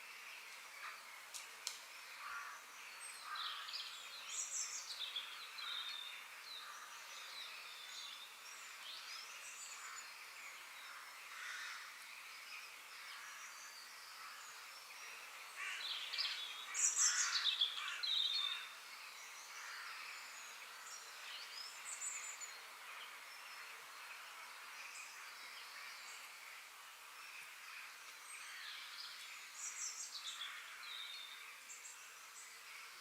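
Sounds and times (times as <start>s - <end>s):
songbirds chirping: 0.0s - 33.0s
steady hiss: 0.0s - 33.0s.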